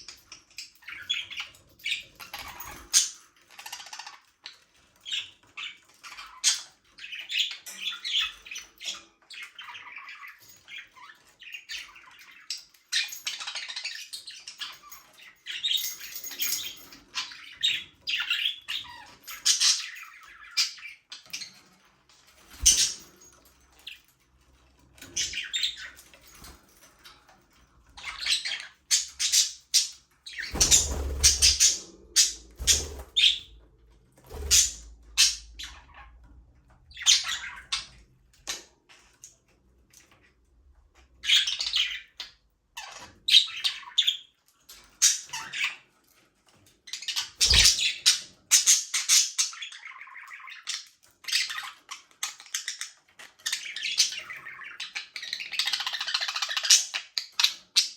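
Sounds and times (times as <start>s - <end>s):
budgerigars chirping and warbling: 0.0s - 40.3s, 40.9s - 57.9s.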